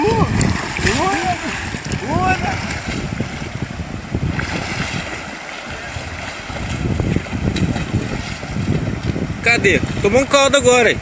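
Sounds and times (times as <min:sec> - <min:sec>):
rushing water: 0:00.0 - 0:11.0
wind rumbling on microphone: 0:00.0 - 0:11.0.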